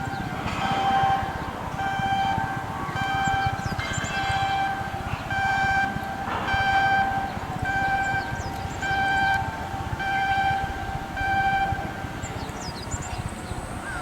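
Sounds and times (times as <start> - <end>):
electronic alarm beeping: 0.0 - 12.4
low mechanical rumble: 0.0 - 14.0.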